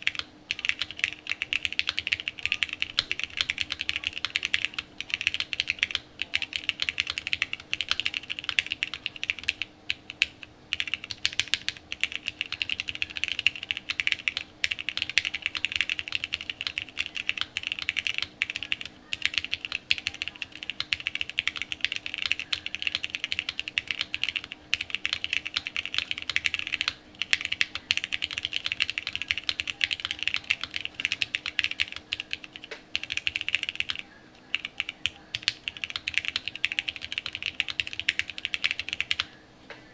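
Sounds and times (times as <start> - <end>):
fast typing on mechanical keyboard: 0.0 - 39.3.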